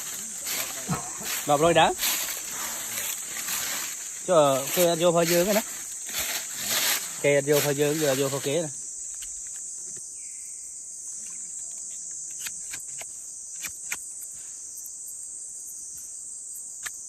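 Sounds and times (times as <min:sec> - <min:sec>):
forest insects chorus: 0:00.0 - 0:17.0.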